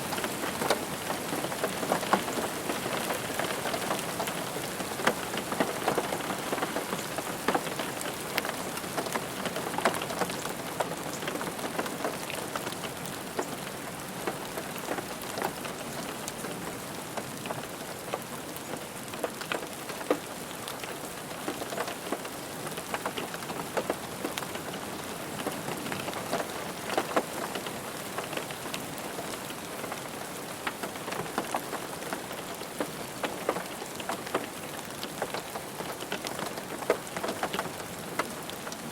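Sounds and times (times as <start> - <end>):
rain drumming on a car roof: 0.0 - 38.9.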